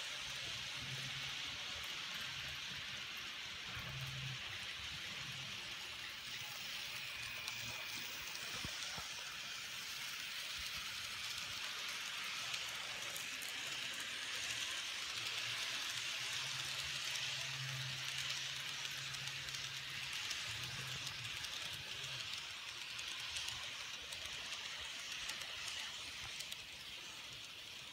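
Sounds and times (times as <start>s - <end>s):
model train wheels rolling: 0.0s - 27.9s.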